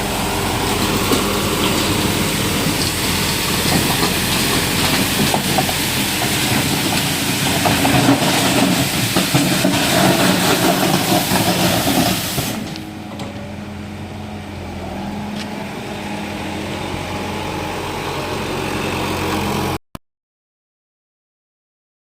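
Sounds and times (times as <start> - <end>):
diesel tractor engine running: 0.0 - 19.8.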